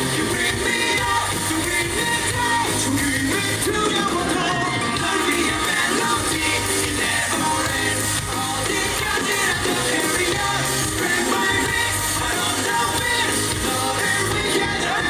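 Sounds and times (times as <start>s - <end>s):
live pop-rock band: 0.0s - 15.0s.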